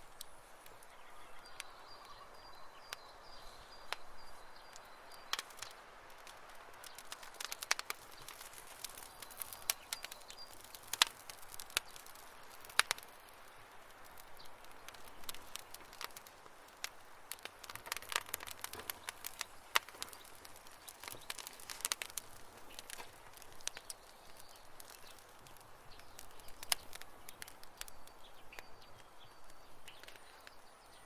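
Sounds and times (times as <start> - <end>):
campfire crackling: 0.0 - 31.0.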